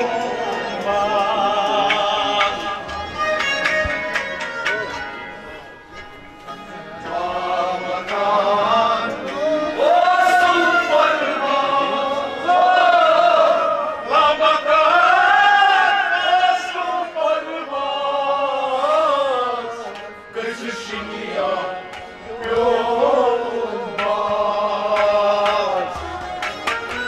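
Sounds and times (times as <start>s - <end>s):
man singing devotional song: 0.0s - 3.2s, 7.0s - 27.0s
instrumental accompaniment: 0.0s - 27.0s.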